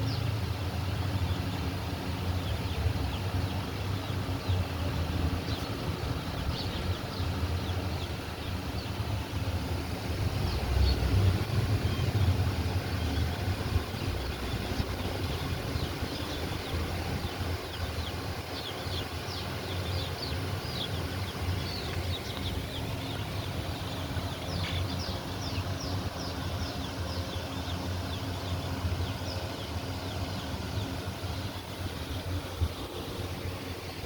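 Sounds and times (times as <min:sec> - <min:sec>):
small birds cheeping: 0:00.0 - 0:34.0
steady low rumble: 0:00.0 - 0:34.0.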